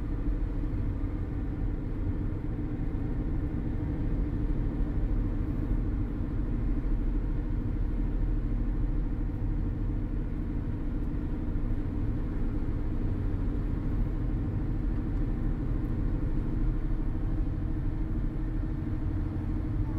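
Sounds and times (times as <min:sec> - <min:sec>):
car interior road rumble: 0:00.0 - 0:19.9.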